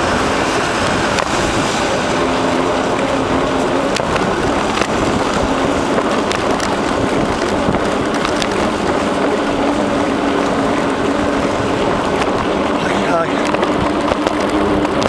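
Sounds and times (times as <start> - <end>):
bicycle tyres rolling on trail: 0.0 - 15.0
wind buffeting microphone: 0.0 - 15.0.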